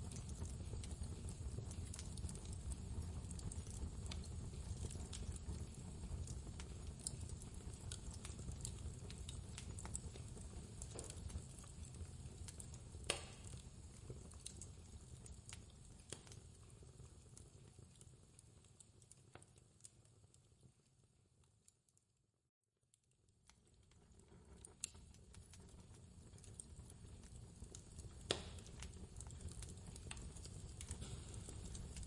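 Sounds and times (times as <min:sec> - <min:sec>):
wood fire crackling and popping: 0:00.0 - 0:22.0, 0:22.9 - 0:32.0.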